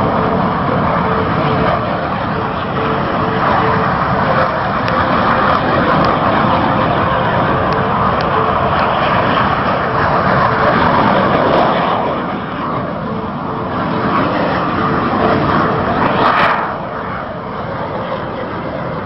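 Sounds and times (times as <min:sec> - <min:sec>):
plane engine rushing overhead: 0:00.0 - 0:19.0.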